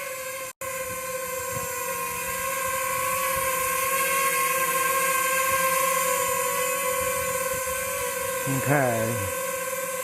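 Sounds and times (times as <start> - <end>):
drone propellers whining: 0.1 - 10.0.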